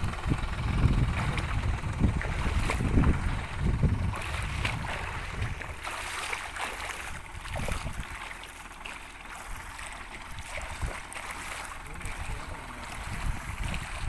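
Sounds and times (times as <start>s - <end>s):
steady low rumble: 0.0s - 14.0s
water splashing under a vehicle: 0.0s - 14.0s.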